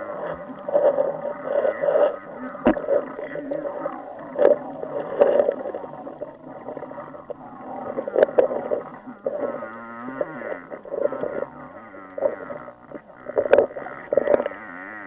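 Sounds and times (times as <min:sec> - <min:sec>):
muffled underwater water movement: 0:00.0 - 0:15.0.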